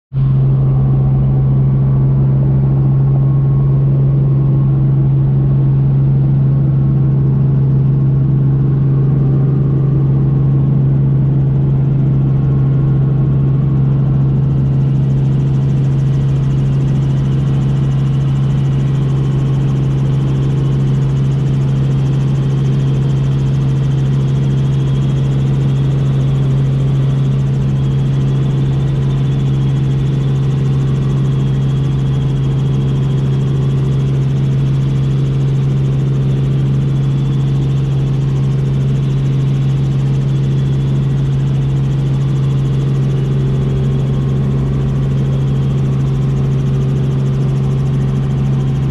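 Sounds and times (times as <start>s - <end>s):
helicopter cabin hum: 0.2s - 48.9s.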